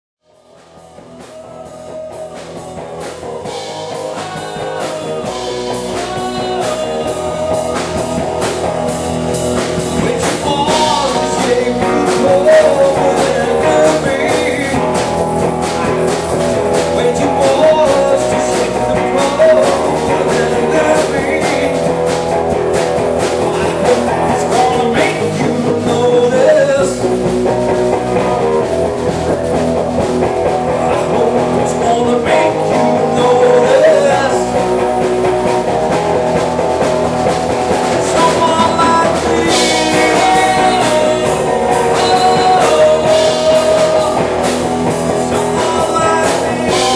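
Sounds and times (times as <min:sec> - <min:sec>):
live rock band playing: 0:00.3 - 0:46.9.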